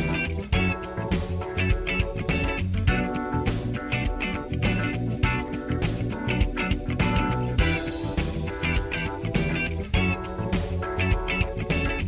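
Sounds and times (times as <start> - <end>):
instrumental guitar music with beat: 0.0 - 12.0.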